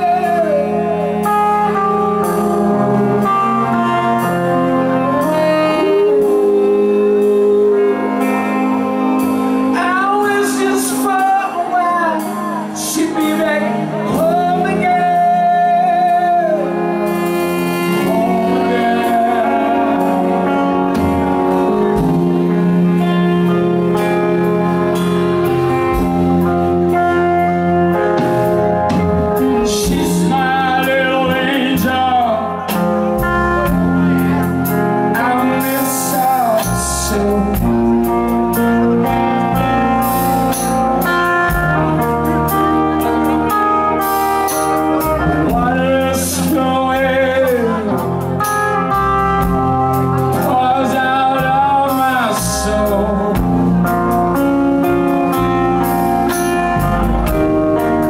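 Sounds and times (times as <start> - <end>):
man singing: 0.0 - 55.7
drum kit: 0.0 - 58.0
electric guitars: 0.0 - 58.0.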